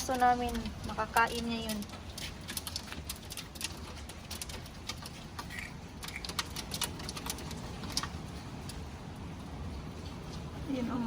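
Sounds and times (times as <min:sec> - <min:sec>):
hailstones ticking on hard surfaces: 0:00.0 - 0:11.0
rain pattering: 0:00.0 - 0:11.0.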